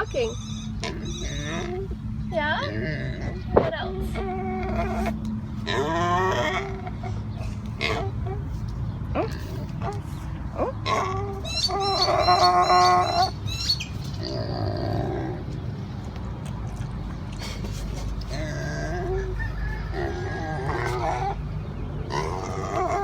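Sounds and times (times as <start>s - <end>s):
farm animal calling: 0.0s - 16.1s, 16.7s - 23.0s.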